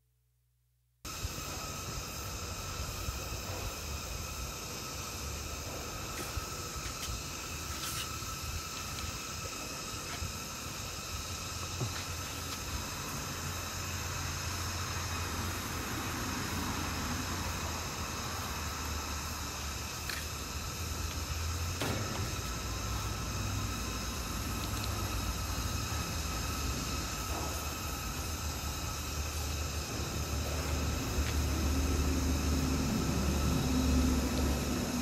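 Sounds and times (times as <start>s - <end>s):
background hiss: 1.0s - 35.0s.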